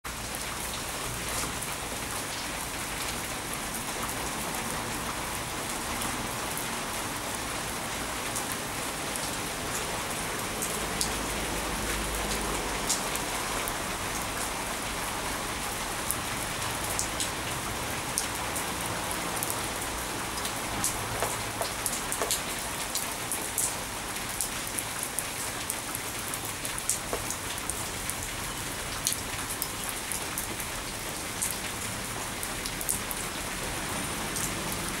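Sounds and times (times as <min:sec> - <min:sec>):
rain hissing on stone paving: 0:00.1 - 0:35.0.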